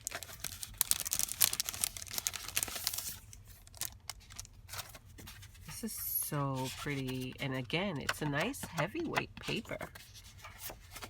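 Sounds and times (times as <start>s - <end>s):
paper and plastic crinkling: 0.0s - 11.0s.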